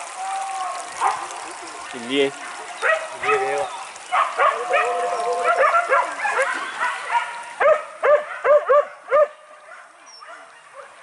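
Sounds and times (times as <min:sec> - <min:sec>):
dogs barking and yelping: 0:01.0 - 0:11.0.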